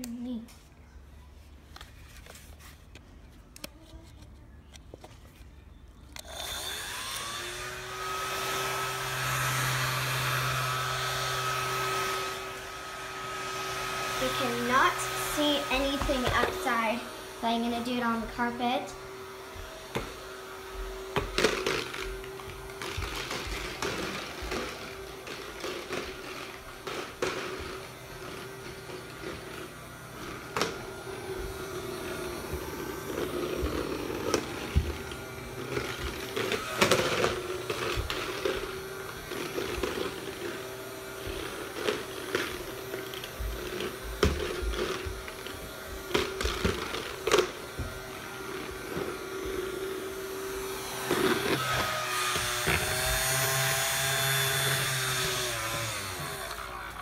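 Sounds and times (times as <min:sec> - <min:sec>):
toy fan humming: 0:06.1 - 0:57.0.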